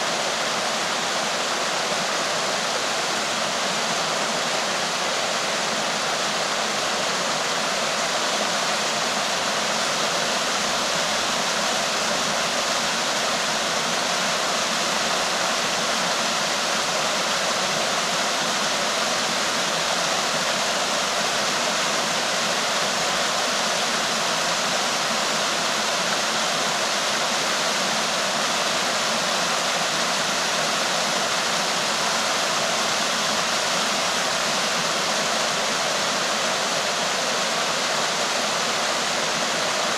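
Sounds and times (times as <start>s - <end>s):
waterfall rushing into pool: 0.0s - 39.9s.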